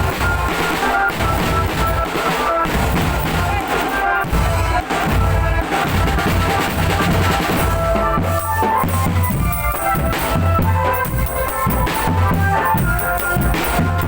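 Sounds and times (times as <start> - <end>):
held melody line: 0.0 - 14.0
snare drums: 0.0 - 14.0.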